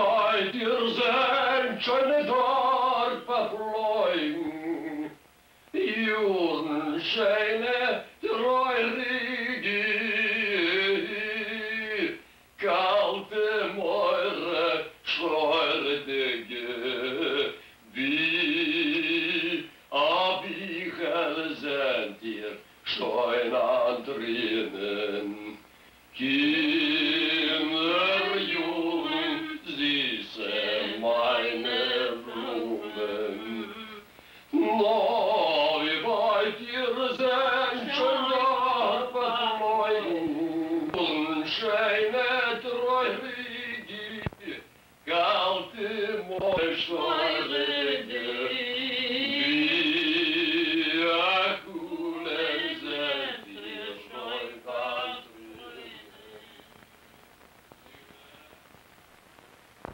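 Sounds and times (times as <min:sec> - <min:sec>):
person singing unaccompanied: 0:00.0 - 0:57.0.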